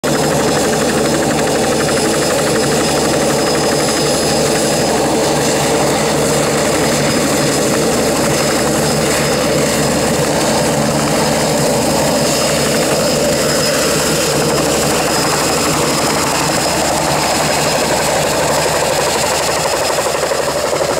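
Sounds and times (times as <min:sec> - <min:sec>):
helicopter turbine whine: 0:00.0 - 0:20.9.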